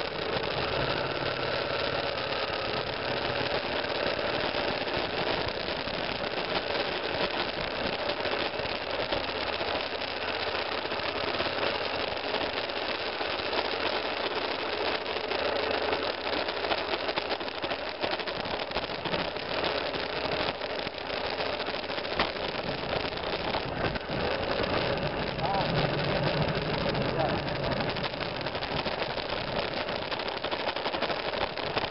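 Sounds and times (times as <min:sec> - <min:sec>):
motorcycle engine running: 0:00.0 - 0:30.7.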